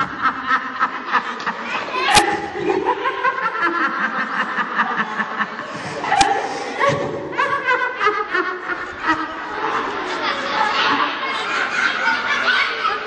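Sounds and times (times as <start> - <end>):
crowd chatting and laughing: 0.0 - 13.0.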